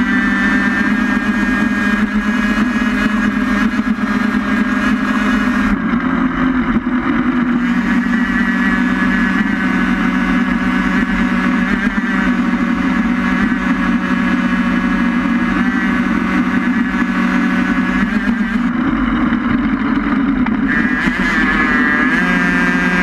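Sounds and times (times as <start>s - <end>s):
racing vehicle running on road: 0.0s - 23.0s.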